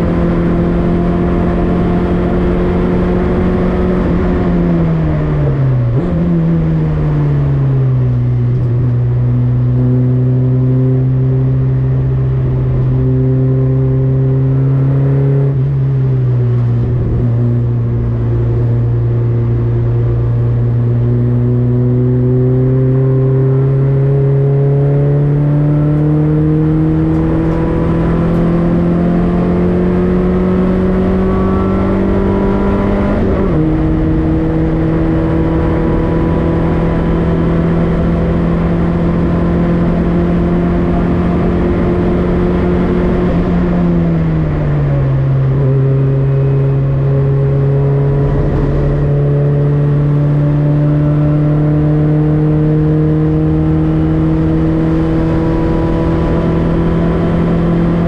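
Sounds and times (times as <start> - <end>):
race car engine revving: 0.0 - 15.9, 16.5 - 58.0.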